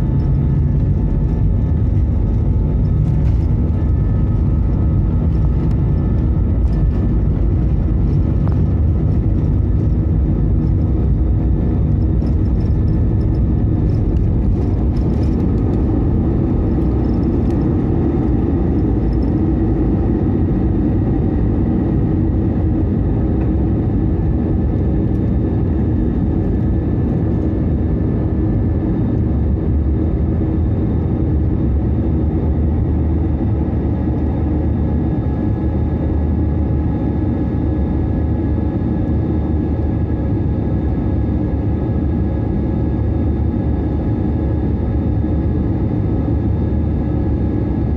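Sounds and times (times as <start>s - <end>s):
jet engine noise in cabin: 0.0s - 47.9s.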